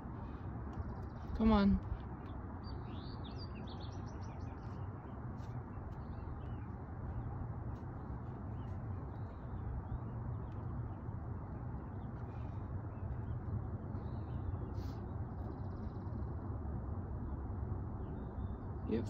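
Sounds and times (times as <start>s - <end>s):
songbird chirping: 0.0s - 16.6s.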